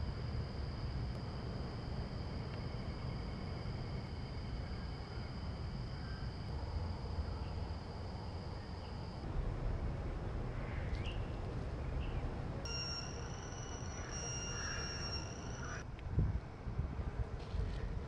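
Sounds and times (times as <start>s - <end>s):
insects trilling: 0.0s - 15.8s
low outdoor rumble: 0.0s - 18.0s.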